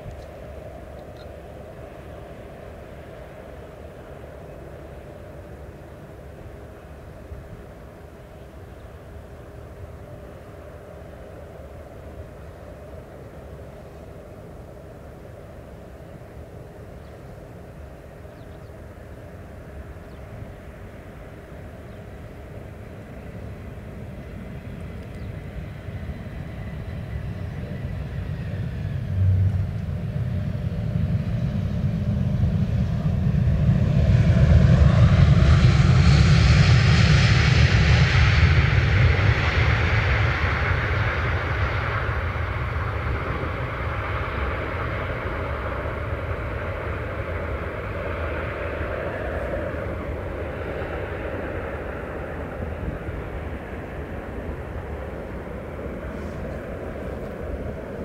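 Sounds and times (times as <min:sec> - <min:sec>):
jet engine rumble: 0:00.0 - 0:58.0.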